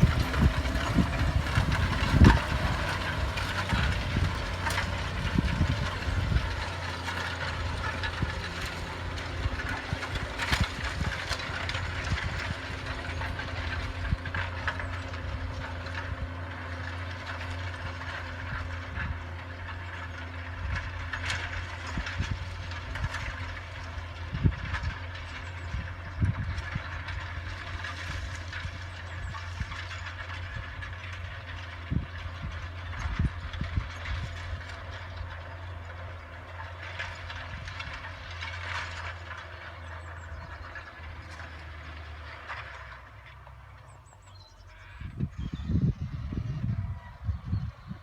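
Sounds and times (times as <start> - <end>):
clanks and rattles: 0.0 - 45.7
tractor diesel engine running: 0.0 - 48.0.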